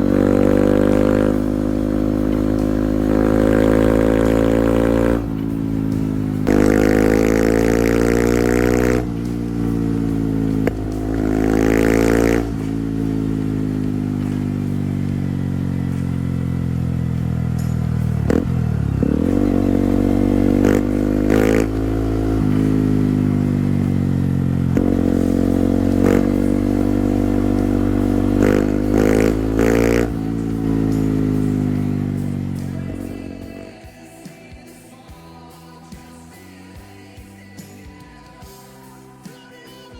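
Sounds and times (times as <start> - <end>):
motorcycle engine revving: 0.0 - 36.8.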